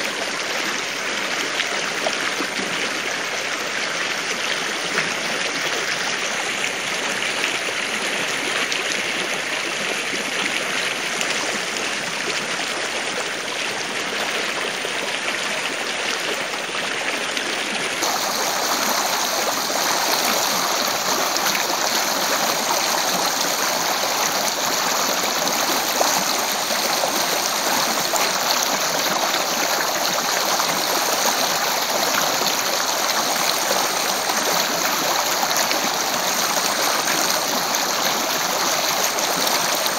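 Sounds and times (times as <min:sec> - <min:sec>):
water rushing over stones: 0:00.0 - 0:39.9.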